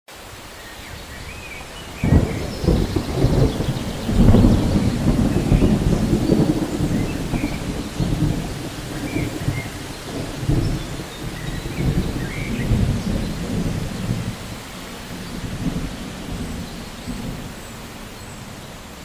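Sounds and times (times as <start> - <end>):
steady rain: 0.1 - 19.0
thunder rumbling: 0.9 - 18.8.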